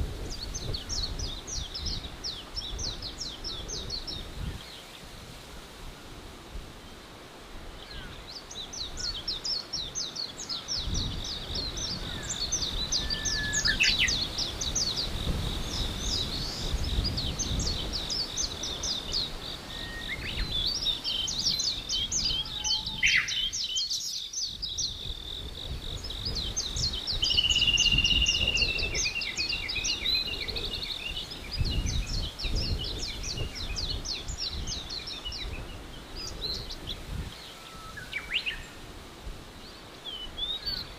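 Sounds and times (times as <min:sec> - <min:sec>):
songbirds chirping in trills: 0:00.0 - 0:05.2, 0:06.8 - 0:40.9.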